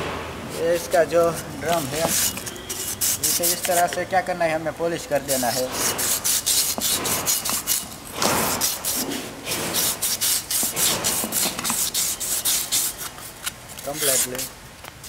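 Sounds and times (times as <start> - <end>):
sandpaper rubbing metal: 0.5 - 4.0, 5.2 - 14.5.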